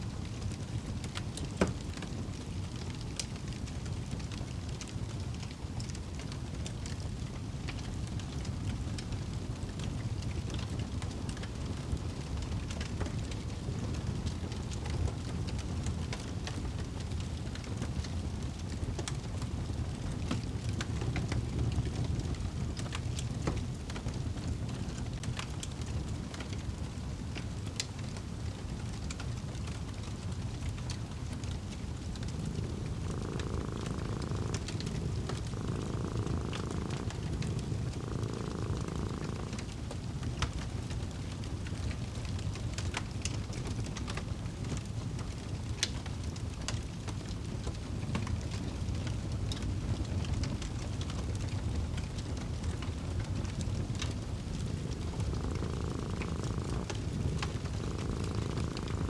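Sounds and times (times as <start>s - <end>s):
cat purring: 0.0s - 44.0s, 44.6s - 59.0s
low rumble of fire: 0.0s - 59.0s
fire crackling and popping: 9.4s - 59.0s.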